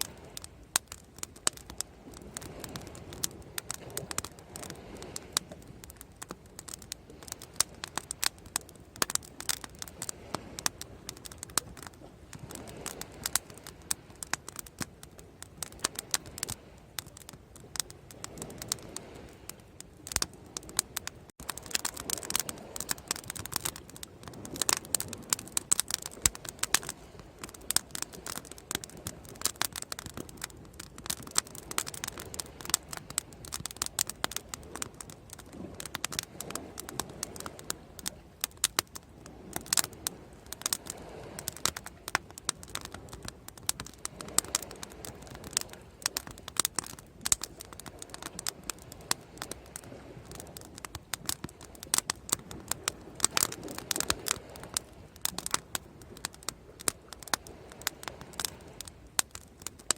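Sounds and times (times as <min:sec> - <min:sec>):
bonfire crackling pops and snaps: 0:00.0 - 0:59.9
soft fire hiss: 0:00.0 - 0:59.9.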